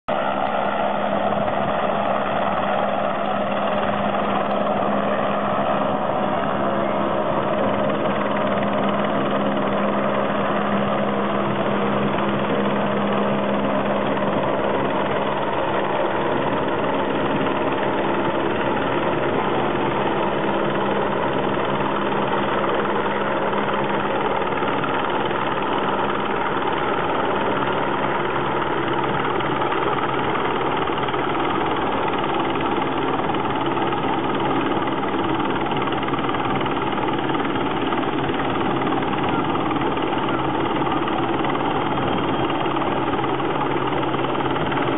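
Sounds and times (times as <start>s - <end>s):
helicopter flying: 0.1s - 44.9s.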